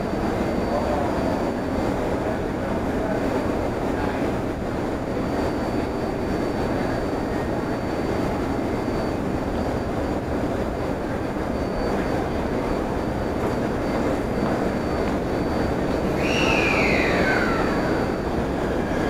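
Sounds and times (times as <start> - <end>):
faint high-pitched whine: 0.0 - 19.0.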